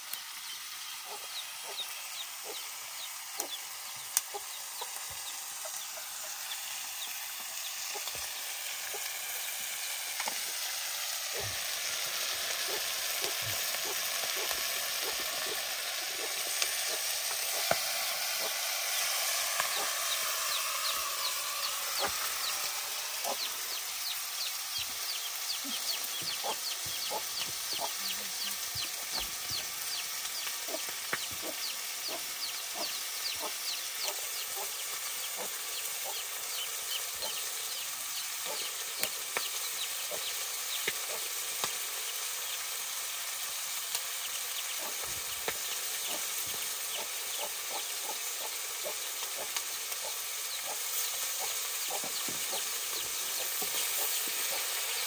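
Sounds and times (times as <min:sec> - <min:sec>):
chicken sizzling in a pan: 0:00.0 - 0:55.0
wood fire crackling: 0:00.0 - 0:55.0.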